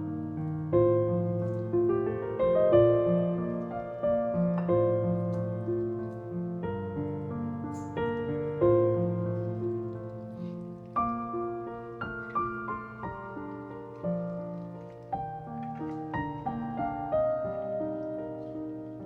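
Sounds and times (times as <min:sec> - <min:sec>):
soft solo piano music: 0:00.0 - 0:19.0.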